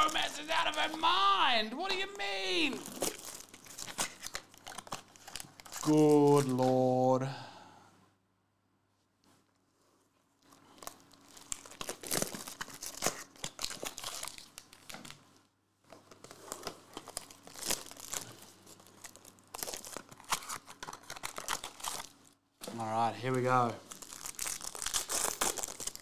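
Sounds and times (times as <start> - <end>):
foil wrappers crinkling and tearing: 0.0 - 1.3, 1.9 - 7.0, 10.5 - 15.2, 15.9 - 26.0.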